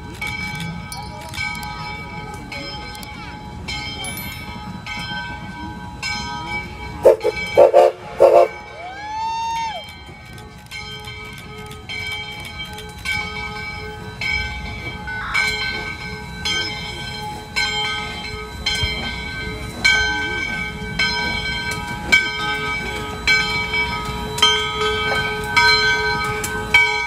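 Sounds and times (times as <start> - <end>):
low rumble of moving train: 0.0 - 27.0
steam locomotive bell ringing: 0.0 - 27.0.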